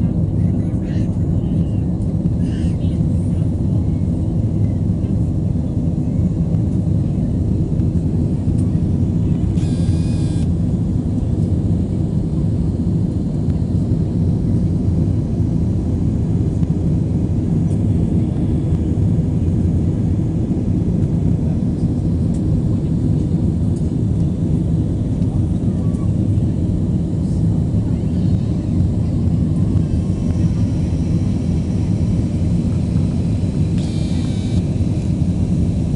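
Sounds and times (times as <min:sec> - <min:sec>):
airliner cabin engine roar: 0:00.0 - 0:35.9.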